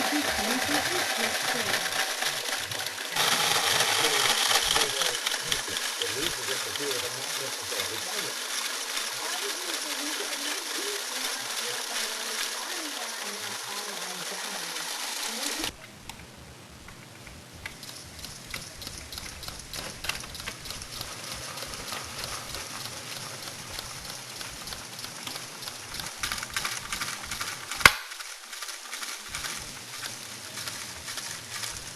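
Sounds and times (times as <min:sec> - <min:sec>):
mechanical clicking and crackling: 0:00.0 - 0:16.3, 0:16.9 - 0:31.9.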